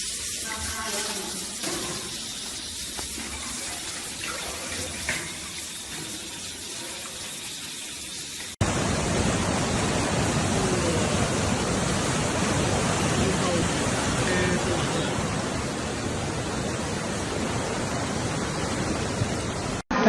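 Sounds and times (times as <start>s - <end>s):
rushing water: 0.0s - 19.8s.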